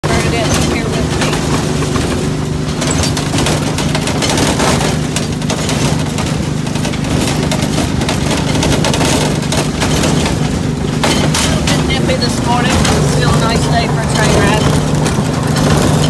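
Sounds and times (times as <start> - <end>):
miniature train engine hum: 0.0 - 16.0
train clicks and rattles: 0.0 - 16.0.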